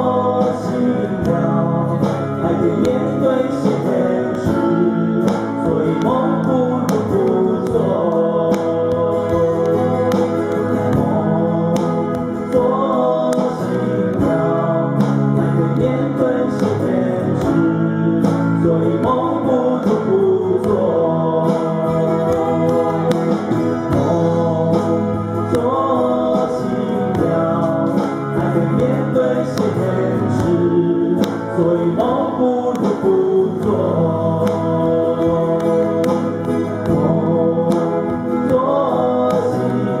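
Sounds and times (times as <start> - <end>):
amplified acoustic guitars: 0.0 - 40.0
men singing together: 0.0 - 40.0.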